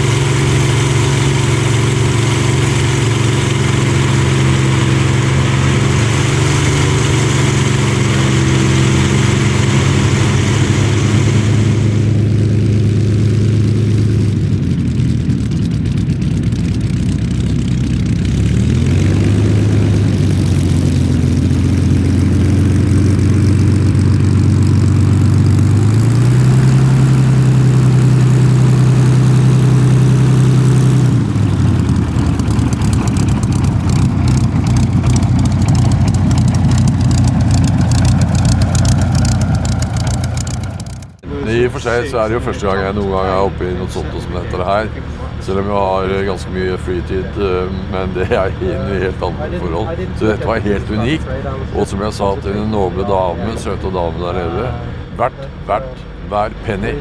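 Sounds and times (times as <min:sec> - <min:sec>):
aircraft engine running: 0:00.0 - 0:57.0.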